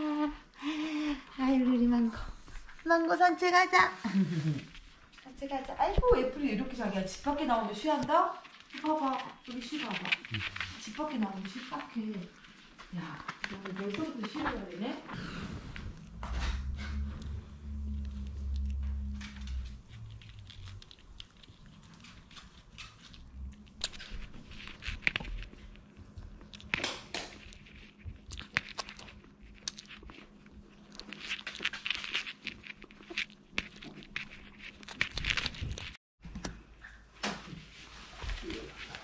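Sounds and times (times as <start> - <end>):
dogs rustling and scratching: 4.5 - 36.0, 37.4 - 39.0.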